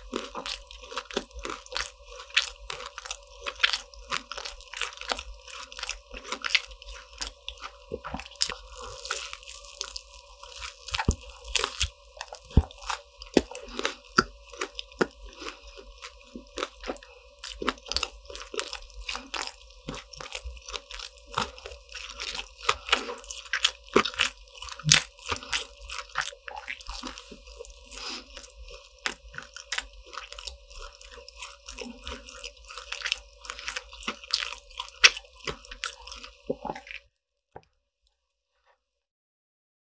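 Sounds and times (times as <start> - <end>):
faint steady hum: 0.0 - 37.0
crunching and chewing: 0.0 - 37.1.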